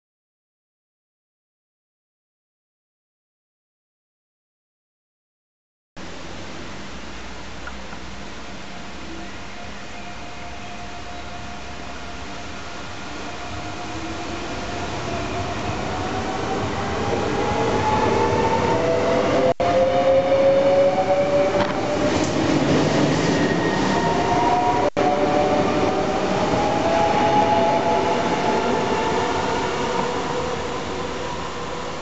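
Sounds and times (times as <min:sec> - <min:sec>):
rising train whine: 0:06.0 - 0:32.0
train running on track: 0:06.0 - 0:32.0.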